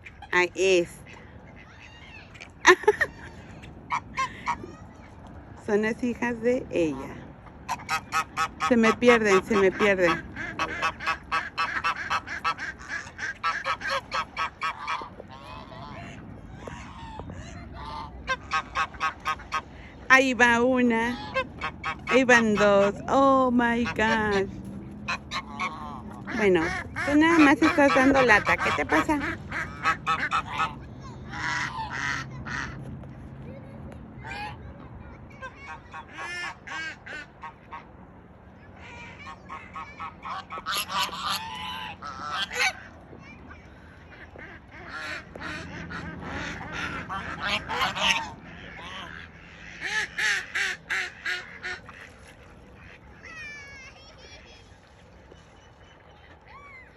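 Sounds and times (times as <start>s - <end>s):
waterfowl honking: 0.0s - 4.8s, 6.7s - 32.8s, 35.4s - 37.9s, 38.8s - 53.4s.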